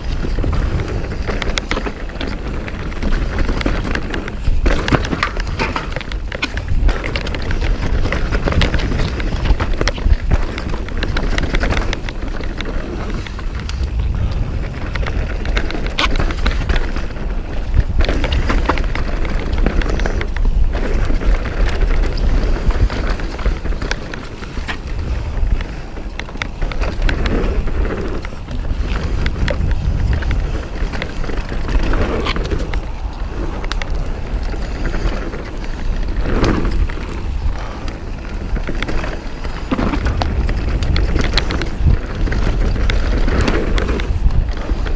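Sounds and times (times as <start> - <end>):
bike clicking and rattling: 0.0 - 44.9
tyres rumbling on dirt: 0.0 - 44.9
wind buffeting microphone: 0.0 - 44.9.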